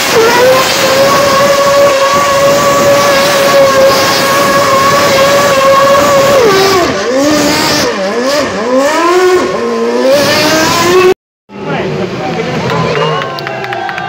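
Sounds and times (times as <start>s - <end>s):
racing car engine revving: 0.0s - 13.2s.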